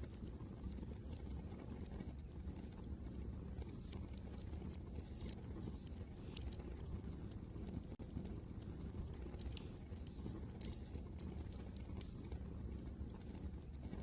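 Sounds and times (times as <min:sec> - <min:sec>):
low rumble of wind: 0:00.0 - 0:14.0
wood fire crackling and popping: 0:00.0 - 0:14.0.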